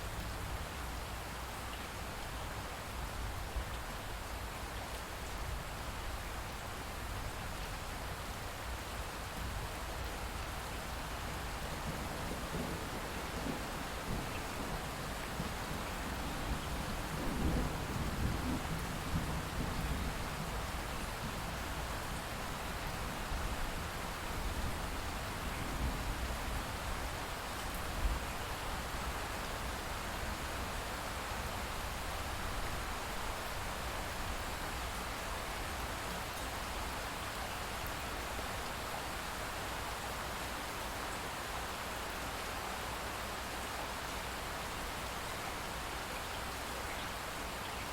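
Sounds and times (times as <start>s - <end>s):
light rain falling and dripping: 0.0s - 47.9s.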